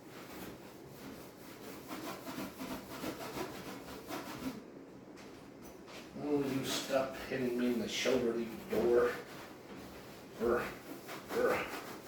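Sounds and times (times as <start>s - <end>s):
sponge scrubbing inside microwave: 0.0s - 4.6s, 6.1s - 12.0s.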